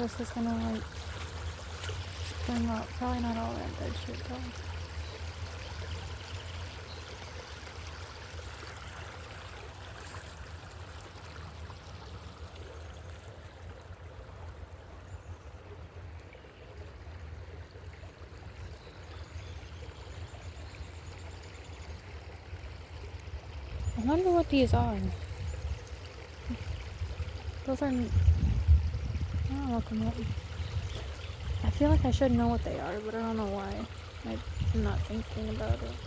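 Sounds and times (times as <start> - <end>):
stream flowing: 0.0 - 36.0.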